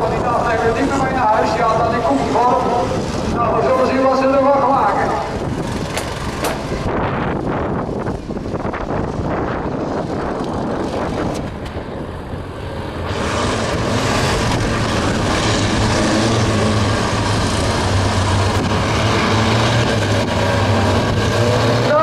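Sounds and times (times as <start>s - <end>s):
race car engines rumbling: 0.0s - 22.0s.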